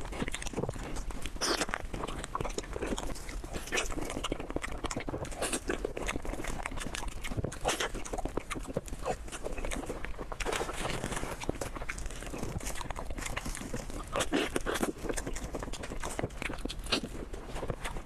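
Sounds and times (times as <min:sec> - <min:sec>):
person chewing and crunching food: 0:00.0 - 0:18.0
wet mouth noises: 0:00.0 - 0:18.0.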